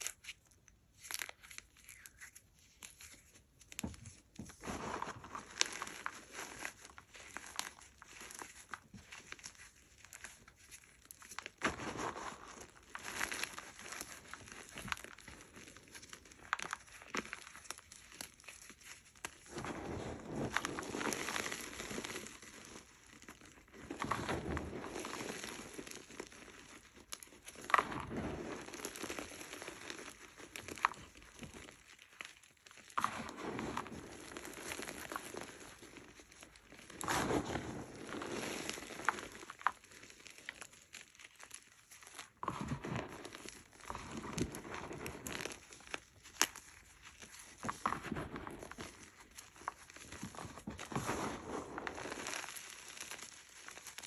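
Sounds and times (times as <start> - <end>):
chalk crunching and crumbling: 0.0 - 54.0.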